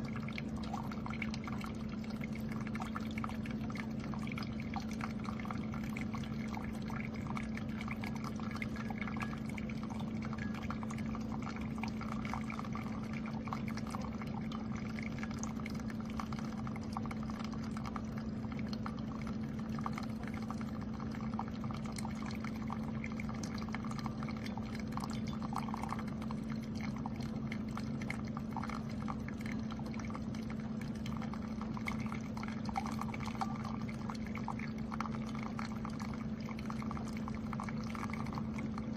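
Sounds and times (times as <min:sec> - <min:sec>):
coffee maker pump hum: 0:00.0 - 0:38.9
coffee pouring into cup: 0:00.0 - 0:38.9.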